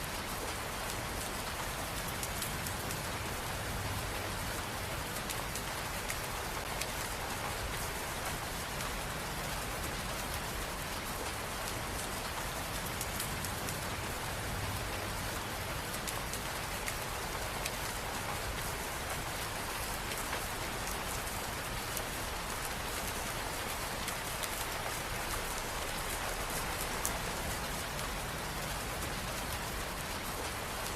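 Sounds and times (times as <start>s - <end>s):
rain pattering on surfaces: 0.0s - 30.9s.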